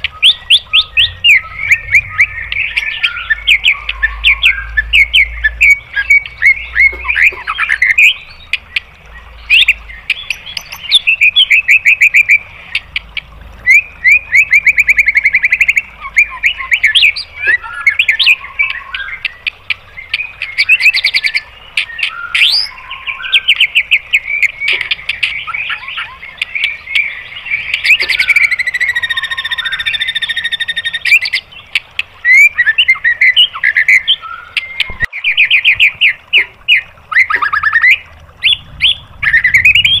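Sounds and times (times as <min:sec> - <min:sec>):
bird singing trills and whistles: 0:00.0 - 0:40.0.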